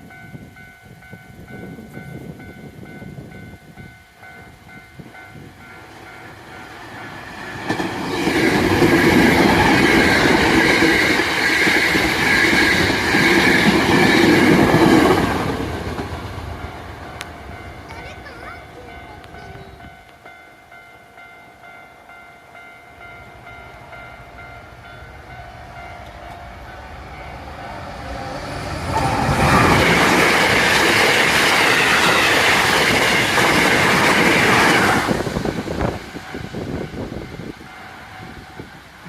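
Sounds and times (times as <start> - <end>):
train passing with wheel clatter: 0.0 - 39.0.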